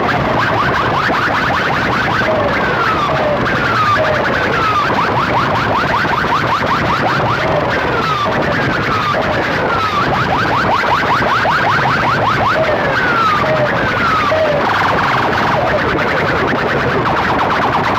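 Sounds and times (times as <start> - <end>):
electronic siren tones: 0.0 - 17.9.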